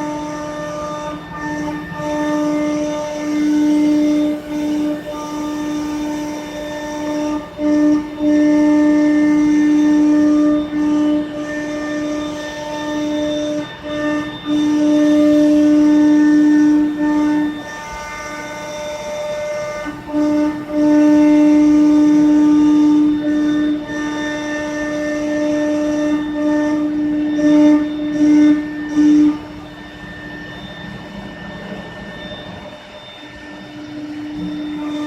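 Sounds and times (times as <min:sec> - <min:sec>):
router spindle whine: 0:00.0 - 0:35.0.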